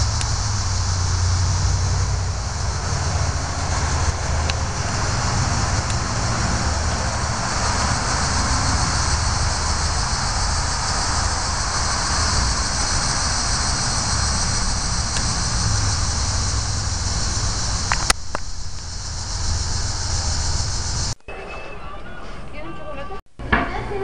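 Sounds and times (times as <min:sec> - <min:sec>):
rumbling hiss of background noise: 0:00.0 - 0:24.0.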